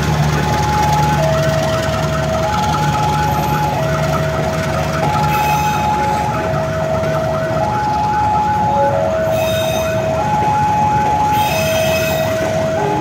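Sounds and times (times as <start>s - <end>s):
squealing train wheels: 0.0s - 6.5s, 8.8s - 13.0s
train coaches rumbling on rails: 0.0s - 13.0s
level crossing two-tone alarm: 0.2s - 13.0s.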